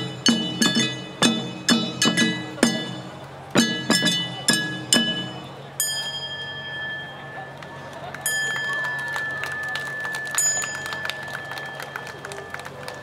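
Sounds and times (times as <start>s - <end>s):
hand-held gongs ringing: 0.0s - 13.0s.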